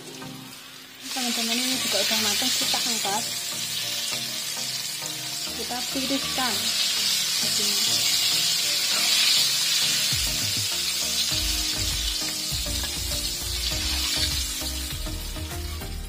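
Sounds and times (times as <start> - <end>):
shrimp sizzling in hot oil: 0.0 - 16.0.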